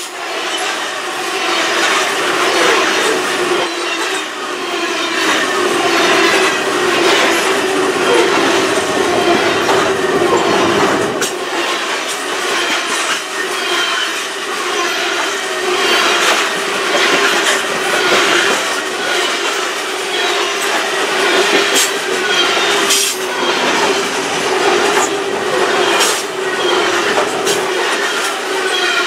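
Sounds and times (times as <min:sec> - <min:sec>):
freight train wheels rumbling: 0:00.0 - 0:29.0
wheels squealing on rail: 0:00.0 - 0:29.0.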